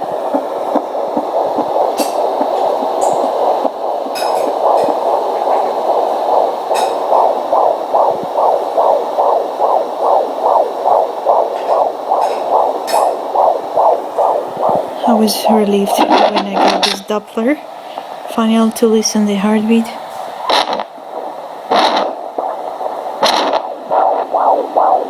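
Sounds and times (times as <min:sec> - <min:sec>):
fetal heartbeat on doppler: 0:00.0 - 0:25.0.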